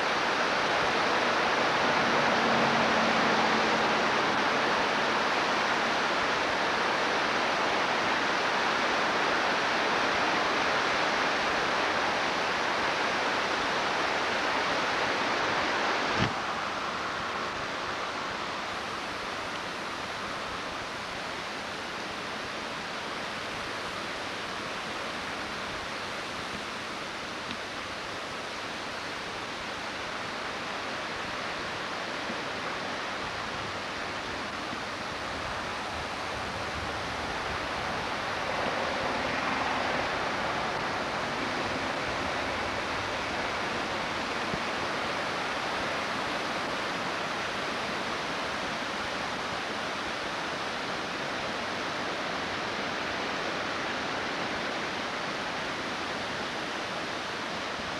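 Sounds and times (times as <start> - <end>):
floodwater rushing: 0.0 - 18.6, 28.1 - 57.9.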